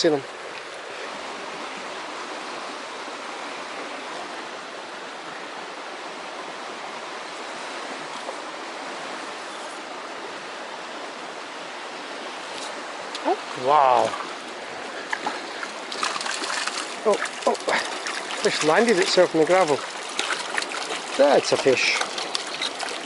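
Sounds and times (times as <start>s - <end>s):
stream rushing over stones: 0.0s - 23.0s.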